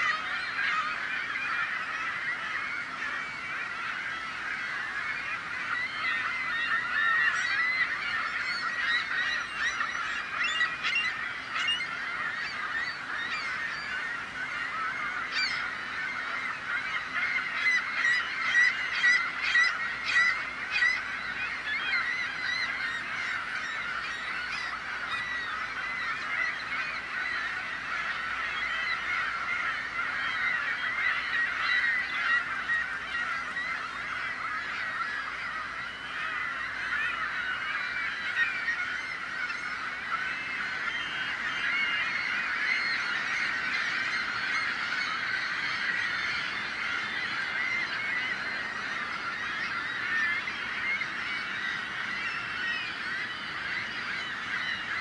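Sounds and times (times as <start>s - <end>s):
gulls calling: 0.0s - 55.0s.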